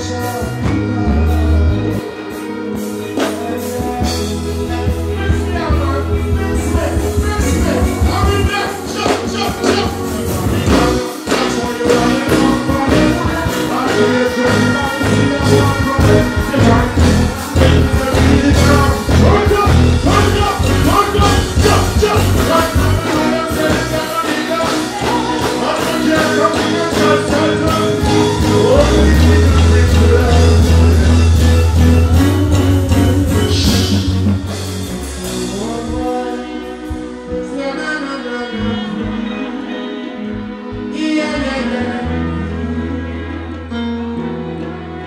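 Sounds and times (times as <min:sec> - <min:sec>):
person singing: 0:00.0 - 0:45.0
reggae band playing: 0:00.0 - 0:45.0.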